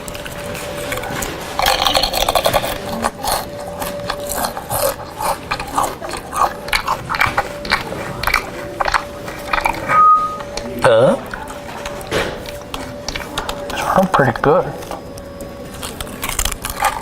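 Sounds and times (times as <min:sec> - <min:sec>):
crunchy chewing through megaphone: 0:00.0 - 0:17.0.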